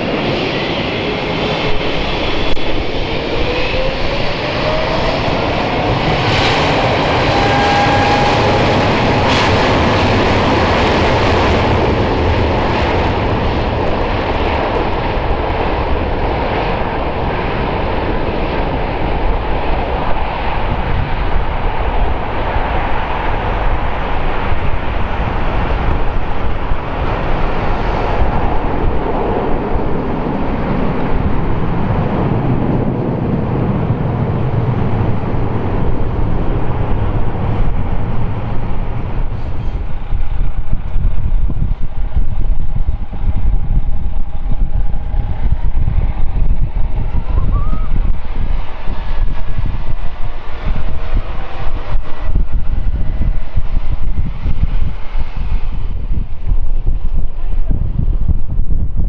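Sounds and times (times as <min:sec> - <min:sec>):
jet approaching with low rumble and whine: 0:00.0 - 0:59.0
jet engines roaring at takeoff: 0:00.0 - 0:59.0.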